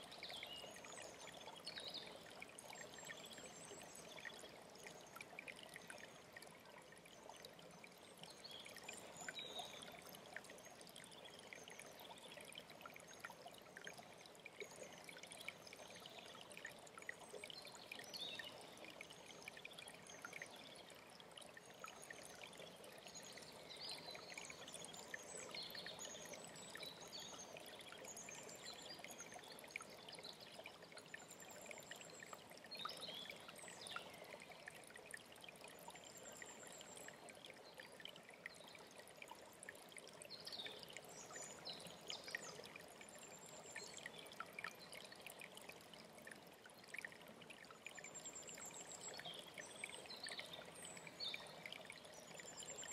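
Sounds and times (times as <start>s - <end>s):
faint stream running: 0.0s - 52.9s.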